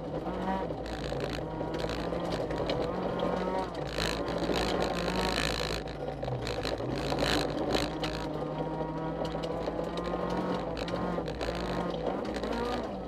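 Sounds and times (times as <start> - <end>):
car engine revving: 0.0 - 13.0
tyres on gravel: 0.0 - 13.0.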